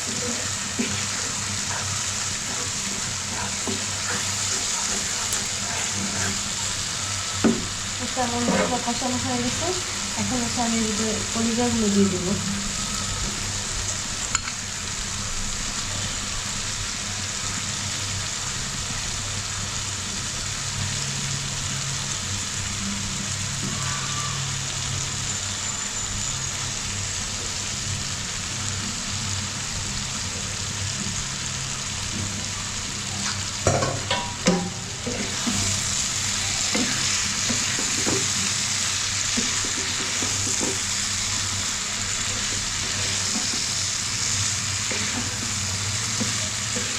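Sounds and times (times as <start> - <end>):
meat sizzling in a pan: 0.0 - 46.9.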